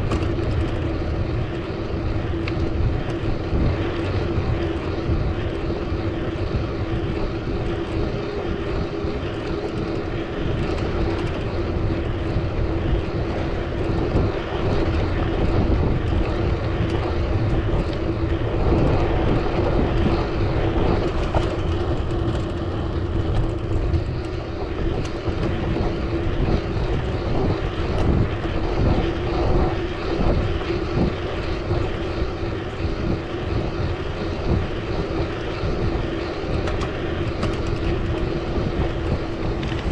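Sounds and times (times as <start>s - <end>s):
droning road and traffic noise: 0.0s - 39.9s
wind rumble on microphone: 0.0s - 39.9s.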